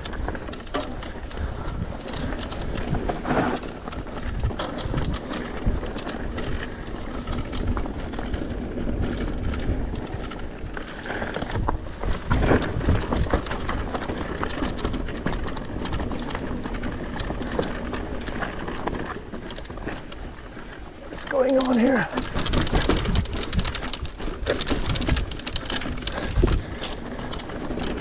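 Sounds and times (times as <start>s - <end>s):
bike rattling and knocking: 0.0s - 28.0s
bike tyres crunching over gravel: 0.0s - 28.0s
wind rumble on microphone: 0.0s - 28.0s.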